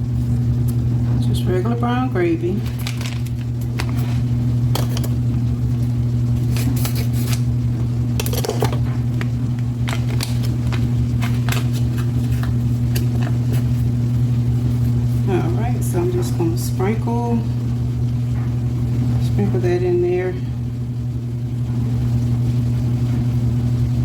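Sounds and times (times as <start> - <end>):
low electric hum: 0.0 - 24.0.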